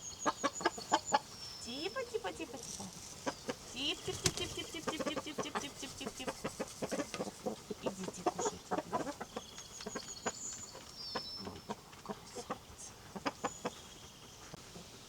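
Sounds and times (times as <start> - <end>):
chickens clucking: 0.2 - 15.0.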